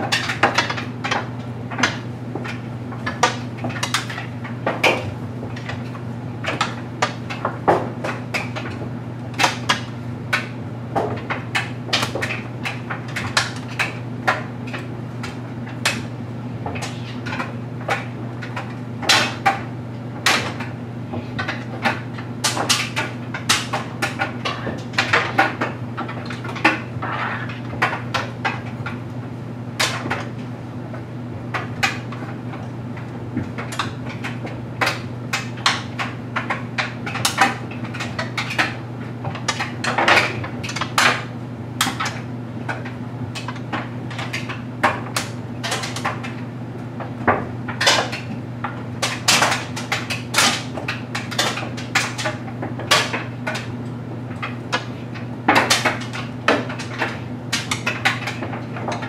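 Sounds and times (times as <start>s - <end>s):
clothes dryer humming: 0.0s - 59.0s.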